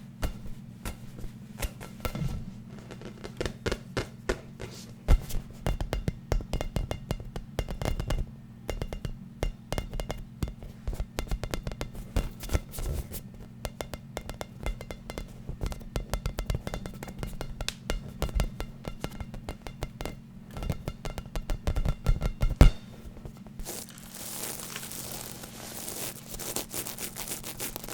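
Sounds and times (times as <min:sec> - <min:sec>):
steady low hum: 0:00.0 - 0:27.9
hand tapping on hard object: 0:03.0 - 0:27.9.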